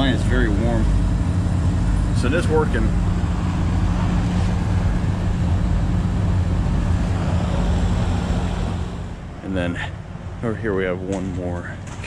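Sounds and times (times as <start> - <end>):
compressor hum: 0.0 - 12.0
fan air rush: 0.0 - 12.0.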